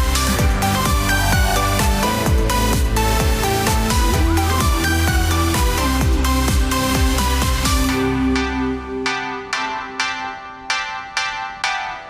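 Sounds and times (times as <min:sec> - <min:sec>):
electronic dance music: 0:00.0 - 0:12.0
held synth chords: 0:00.0 - 0:12.0.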